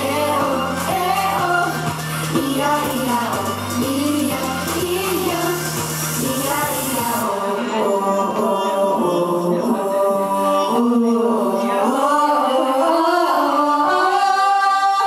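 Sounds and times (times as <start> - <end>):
layered vocal harmony singing: 0.0 - 15.0.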